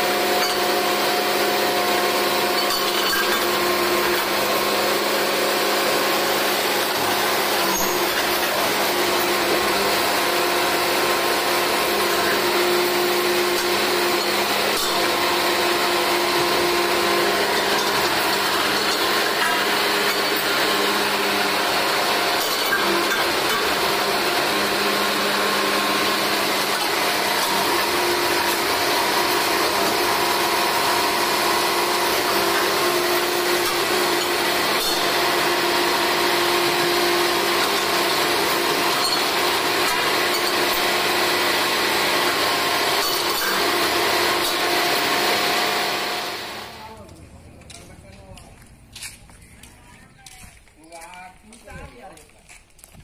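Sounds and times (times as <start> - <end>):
drilling rig running: 0.0 - 53.0.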